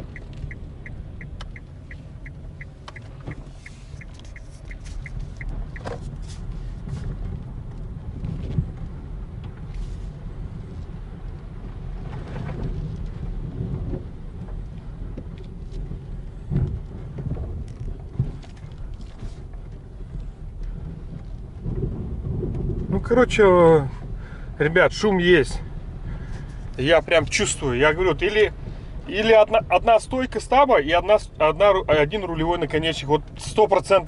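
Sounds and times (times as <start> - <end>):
low road rumble in car cabin: 0.0 - 34.0.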